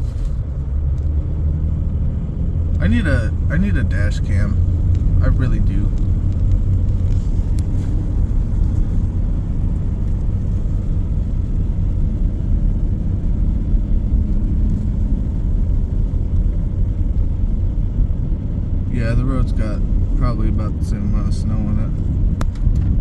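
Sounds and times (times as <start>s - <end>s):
car driving on snow: 0.0s - 23.0s.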